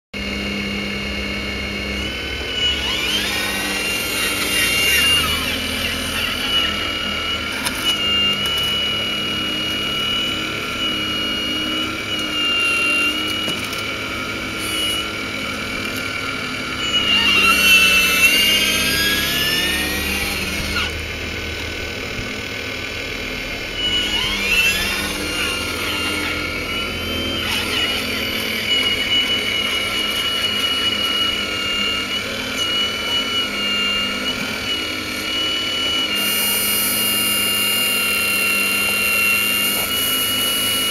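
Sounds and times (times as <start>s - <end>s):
model excavator hydraulic whine: 0.2s - 40.9s.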